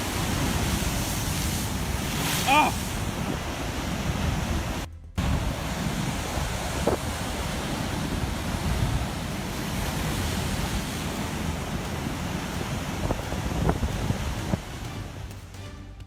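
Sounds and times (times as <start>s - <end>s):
storm surf breaking: 0.0s - 15.3s
wind buffeting microphone: 0.0s - 15.3s.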